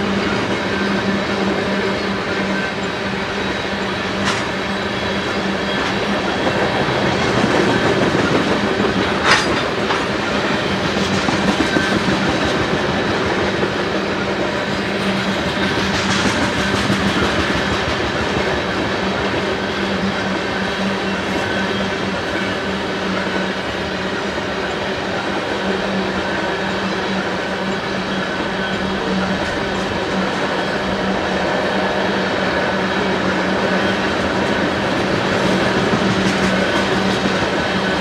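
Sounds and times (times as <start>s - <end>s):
train wheels on rail: 0.0s - 38.0s.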